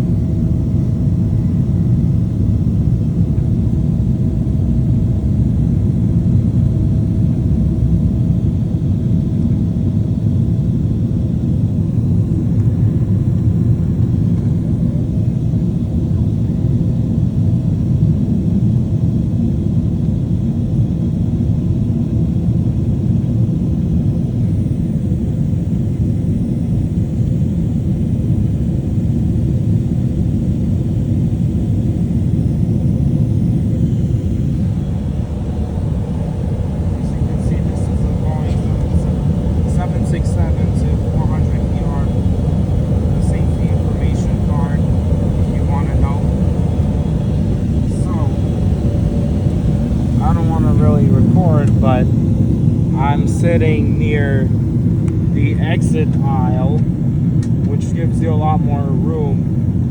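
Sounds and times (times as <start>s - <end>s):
airplane cabin rumble: 0.0s - 59.9s
faint steady whine: 0.0s - 59.9s.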